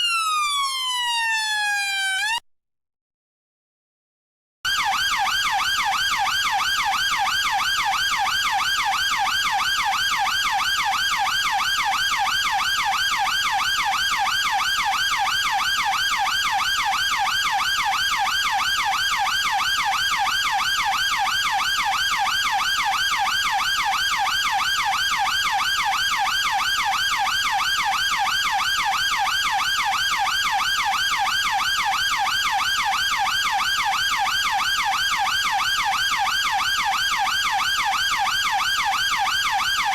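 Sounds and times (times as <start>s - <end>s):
police siren yelping: 0.0s - 2.4s, 4.7s - 39.9s.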